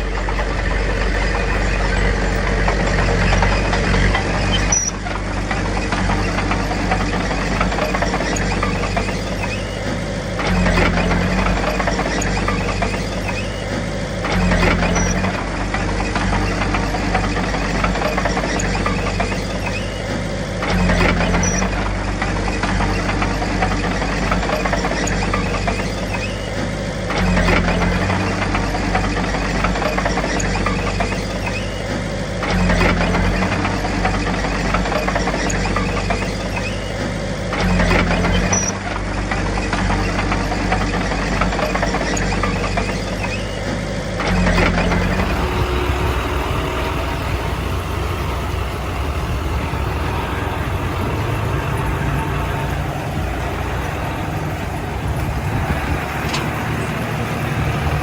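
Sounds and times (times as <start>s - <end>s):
bulldozer diesel engine running: 0.0s - 58.0s
engine clatter: 0.0s - 58.0s.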